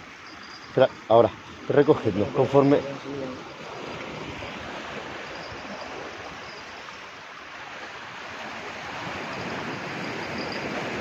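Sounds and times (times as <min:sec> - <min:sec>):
sea surf washing: 0:00.8 - 0:11.0.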